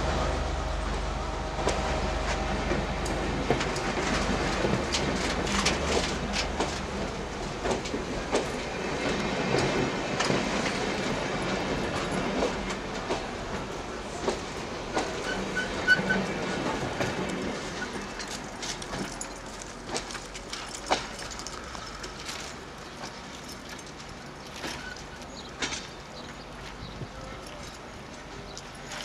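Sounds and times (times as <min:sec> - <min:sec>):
low train rumble: 0:00.0 - 0:29.0
train wheels clicking over rails: 0:00.1 - 0:29.0.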